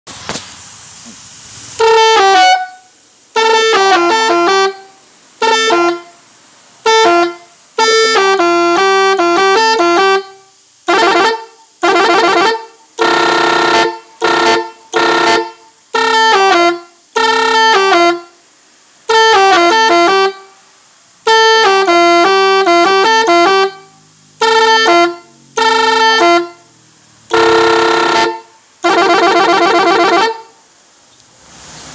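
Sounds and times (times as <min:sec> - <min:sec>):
air horn playing melodic blasts: 0:01.7 - 0:18.4, 0:19.0 - 0:30.6.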